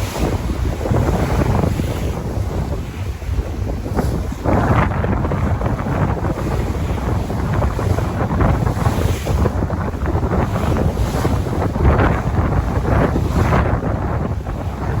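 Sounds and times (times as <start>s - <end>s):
ocean waves washing in: 0.0s - 15.0s
wind buffeting microphone: 0.0s - 15.0s.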